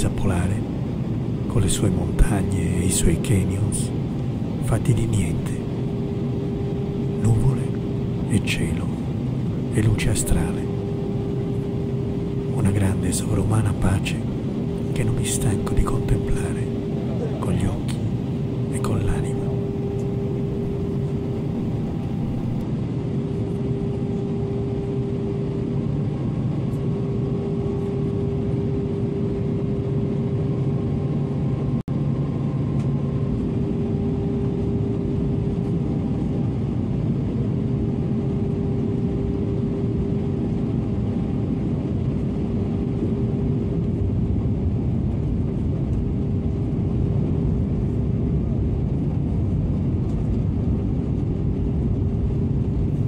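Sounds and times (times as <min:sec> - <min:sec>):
constant hum: 0:00.0 - 0:53.0
jet engine drone: 0:00.0 - 0:53.0.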